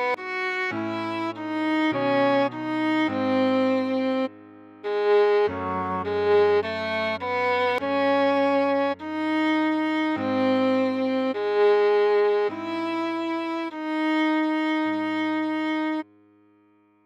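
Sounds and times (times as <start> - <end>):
viola melody: 0.0 - 16.2.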